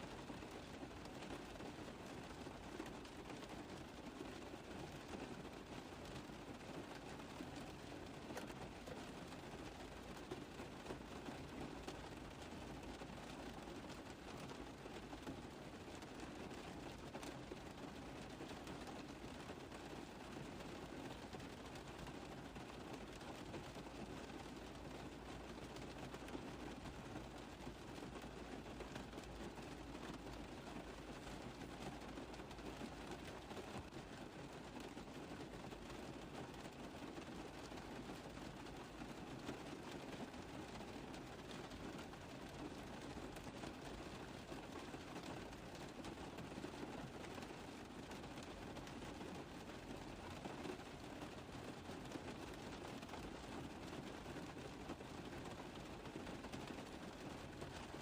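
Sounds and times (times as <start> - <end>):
rain on a car roof: 0.0 - 58.0.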